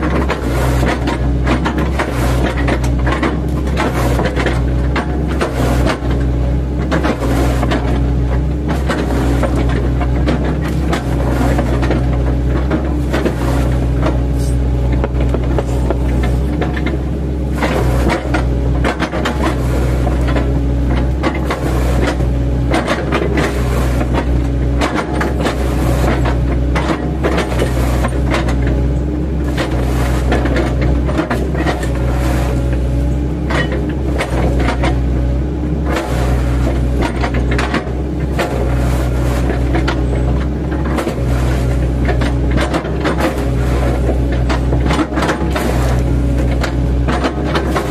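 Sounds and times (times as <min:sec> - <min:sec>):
excavator engine droning with whine: 0:00.0 - 0:47.9.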